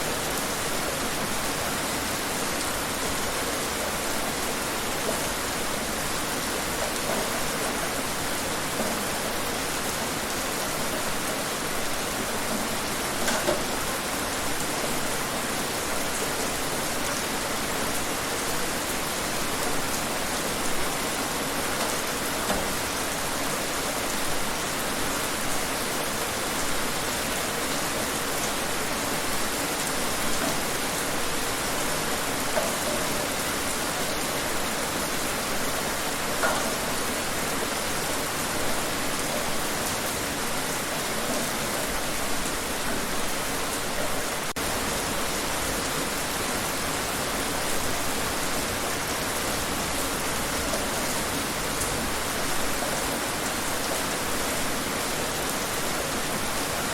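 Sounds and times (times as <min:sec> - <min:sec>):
rain falling on surfaces: 0:00.0 - 0:56.9.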